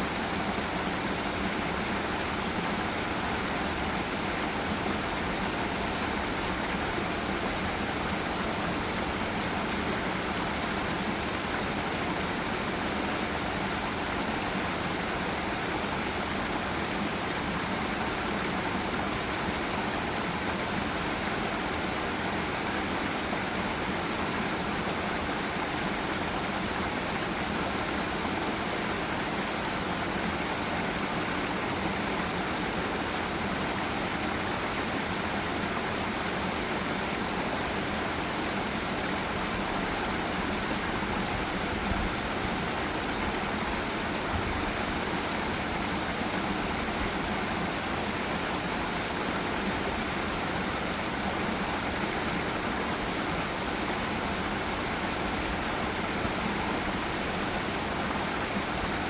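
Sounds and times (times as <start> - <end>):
water rushing over waterfall: 0.0 - 59.0.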